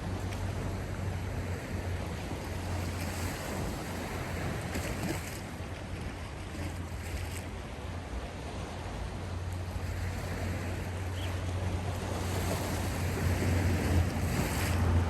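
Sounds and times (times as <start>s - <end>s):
sea surf washing: 0.0s - 15.0s.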